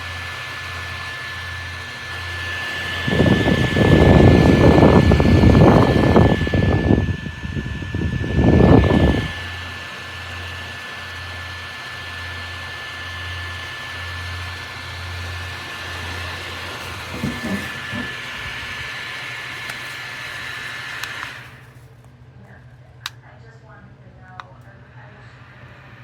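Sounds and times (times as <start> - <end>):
neck fan whirring with motor whine: 0.0 - 26.0.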